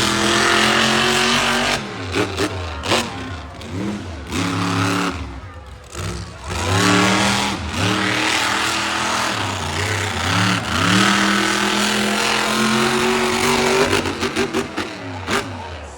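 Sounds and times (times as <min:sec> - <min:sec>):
truck engine revving: 0:00.0 - 0:15.9.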